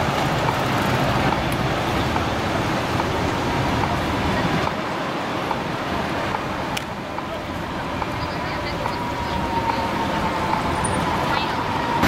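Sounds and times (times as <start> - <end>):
street traffic: 0.0 - 12.0
tram rolling past: 0.0 - 12.0.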